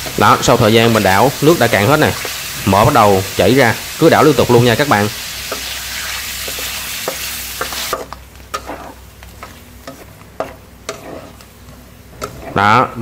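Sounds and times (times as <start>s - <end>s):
fat sizzling in a pan: 0.0s - 13.0s.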